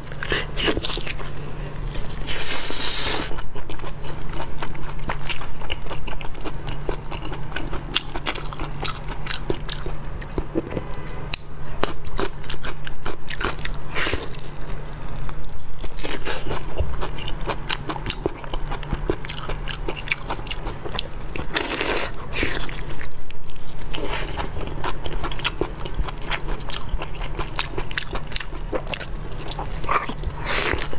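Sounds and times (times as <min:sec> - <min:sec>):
biting and chewing: 0:00.0 - 0:30.9.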